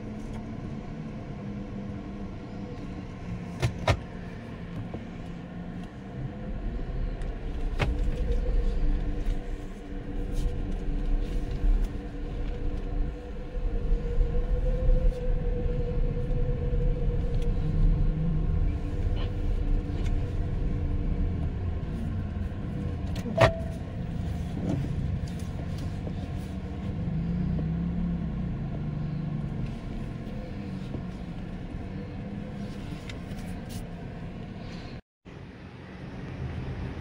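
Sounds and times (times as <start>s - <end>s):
road and tyre noise: 0.0s - 37.0s.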